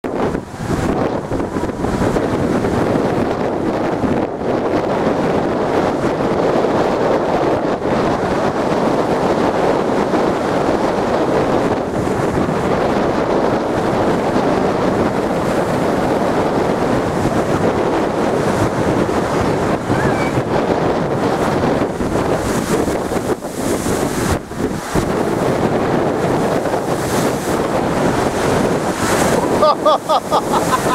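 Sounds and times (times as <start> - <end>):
sea surf against seawall: 0.0 - 30.9
wind buffeting microphone: 0.0 - 30.9.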